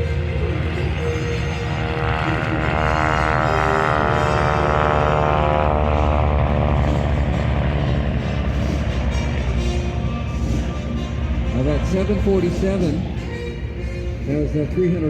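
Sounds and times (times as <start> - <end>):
biplane engines droning: 0.0 - 15.0.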